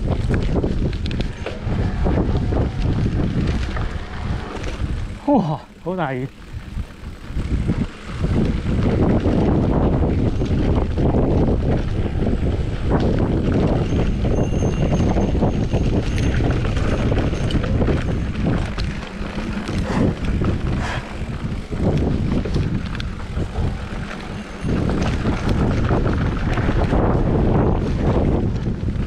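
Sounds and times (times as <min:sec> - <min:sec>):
bike rattling clicks and knocks: 0:00.0 - 0:29.0
wind noise on microphone: 0:00.0 - 0:29.0.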